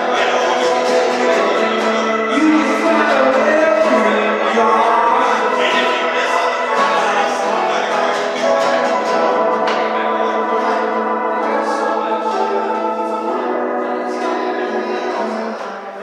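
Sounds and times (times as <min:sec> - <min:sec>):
sustained instrumental chords: 0:00.0 - 0:16.0.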